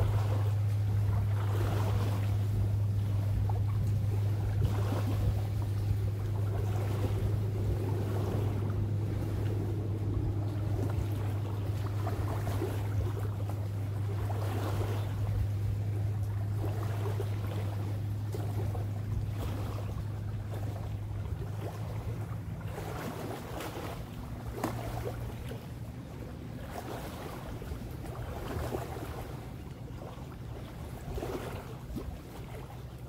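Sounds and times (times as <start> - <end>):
motorboat engine droning: 0.0 - 33.0
waves lapping the shore: 0.0 - 33.0
wind: 0.0 - 33.0.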